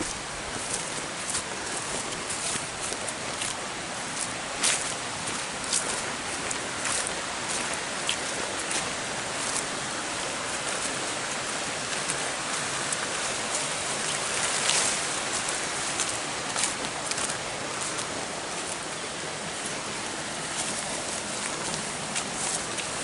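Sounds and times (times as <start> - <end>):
brushing past undergrowth: 0.0 - 23.0
footsteps crunching through dry leaves: 0.0 - 23.0.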